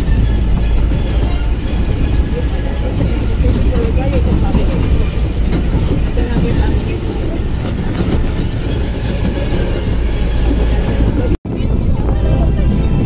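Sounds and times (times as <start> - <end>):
carriage rattling on cobblestones: 0.0 - 12.2
road train motor and wheels rumbling: 0.0 - 13.0.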